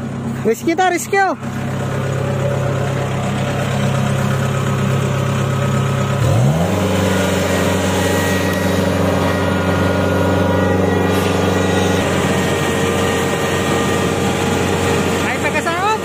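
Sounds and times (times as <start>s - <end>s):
harvester engine revving: 0.0s - 16.0s.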